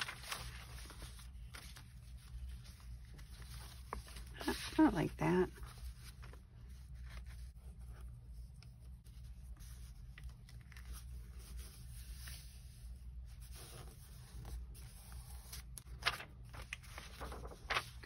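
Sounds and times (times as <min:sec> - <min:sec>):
paper sheets rustling and sliding: 0:00.0 - 0:07.6, 0:09.6 - 0:18.0.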